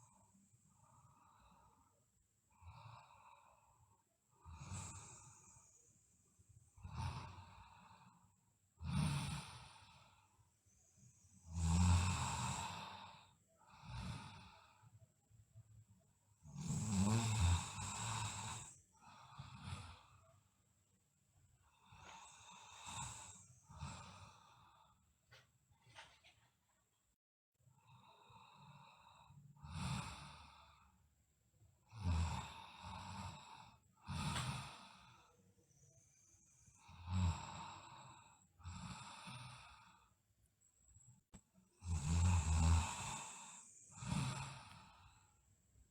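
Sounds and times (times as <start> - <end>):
girl breathing heavily and snoring: 0.0 - 15.0, 16.4 - 20.4, 21.6 - 26.3, 27.7 - 31.1, 31.8 - 41.1, 41.7 - 45.5.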